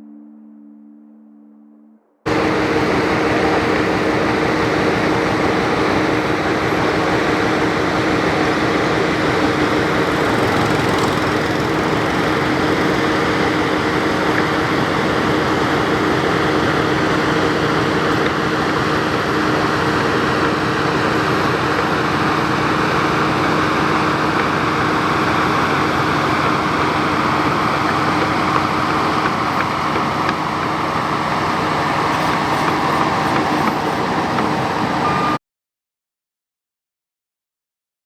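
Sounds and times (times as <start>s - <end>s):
bulldozer diesel engine running: 2.3s - 35.4s.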